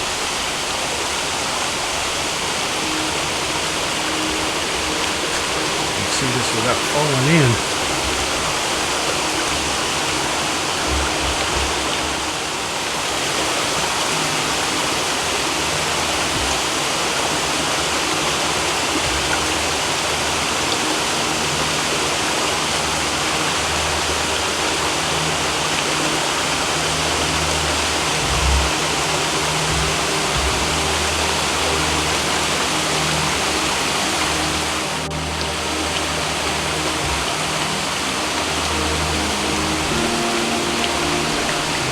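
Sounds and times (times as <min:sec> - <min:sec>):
waterfall crashing into pool: 0:00.0 - 0:41.9.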